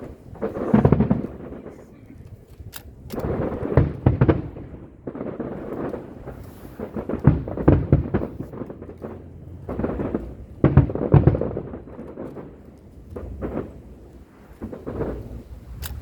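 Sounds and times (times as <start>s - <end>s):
deep rumble: 0.0s - 15.9s
fireworks booming and crackling: 0.0s - 16.0s.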